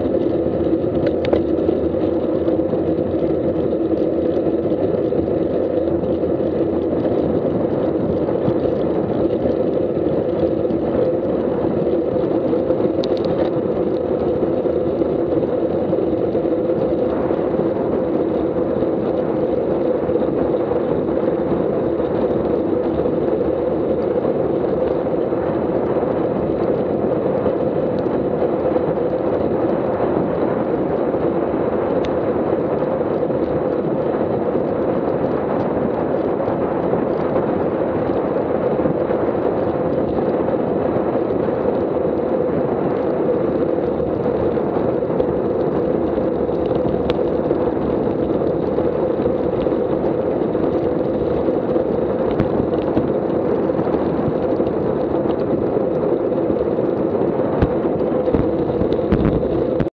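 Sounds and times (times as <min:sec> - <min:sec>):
bicycle tyre and road noise: 0:00.0 - 0:59.9
wind buffeting microphone: 0:00.0 - 0:59.9.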